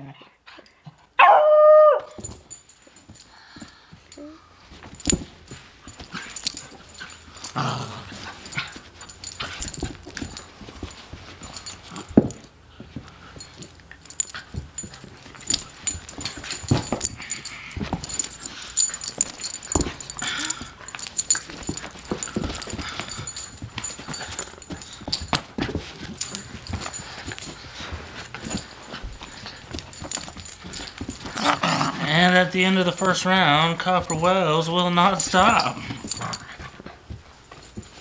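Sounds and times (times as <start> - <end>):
scuffling on carpet: 4.6 - 38.0.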